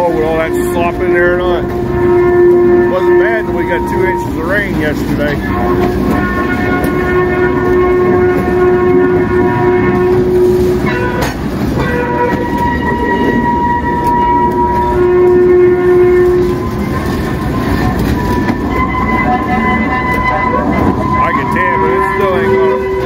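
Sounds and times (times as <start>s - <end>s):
steel wheels rumbling on rail: 0.0s - 23.0s
wheels squealing: 0.0s - 23.0s.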